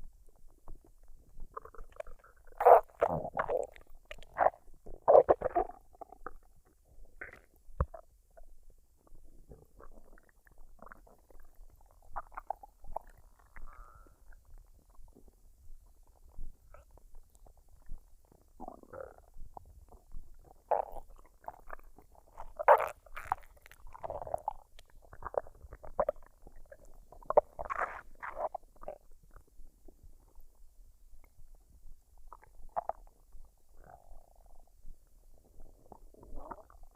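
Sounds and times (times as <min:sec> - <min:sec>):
stomach gurgling and rumbling: 0:00.0 - 0:36.9.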